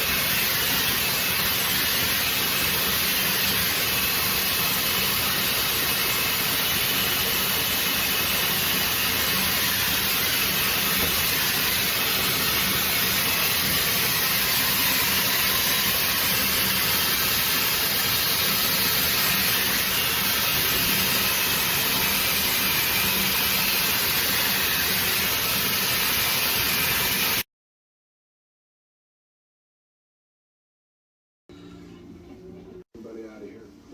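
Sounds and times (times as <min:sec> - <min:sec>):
hair dryer blowing air: 0:00.0 - 0:27.4.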